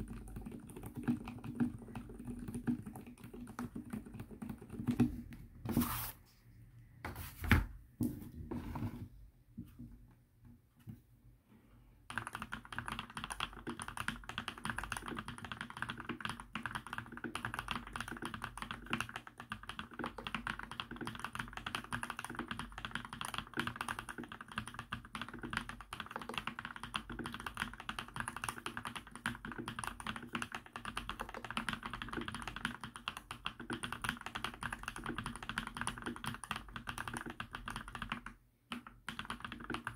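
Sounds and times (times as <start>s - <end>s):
fast keyboard typing: 0.0s - 5.3s, 12.1s - 39.9s.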